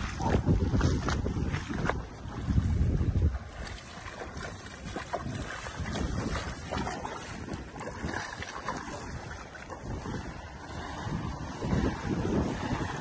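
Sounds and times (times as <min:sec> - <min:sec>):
footsteps splashing through water: 0:00.0 - 0:13.0
wind noise on microphone: 0:00.0 - 0:13.0.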